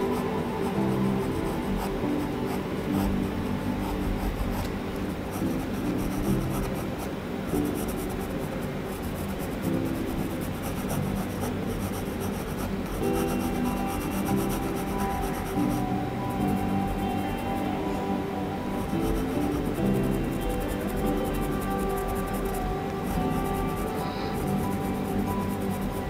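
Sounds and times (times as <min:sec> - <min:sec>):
pencil scratching on paper: 0:00.0 - 0:04.7, 0:05.3 - 0:17.4, 0:18.8 - 0:26.0
soft background music: 0:00.0 - 0:26.0.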